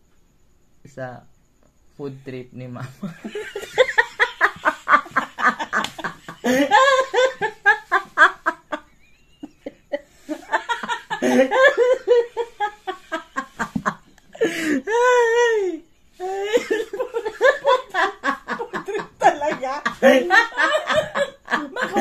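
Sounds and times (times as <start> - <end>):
man and woman laughing: 2.8 - 22.0.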